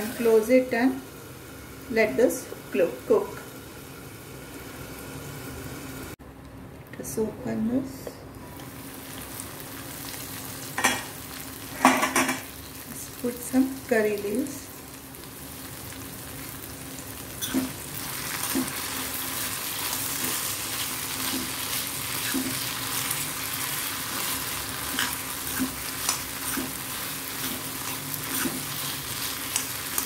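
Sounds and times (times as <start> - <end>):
vegetables sizzling in oil: 0.0 - 6.2, 8.4 - 30.0.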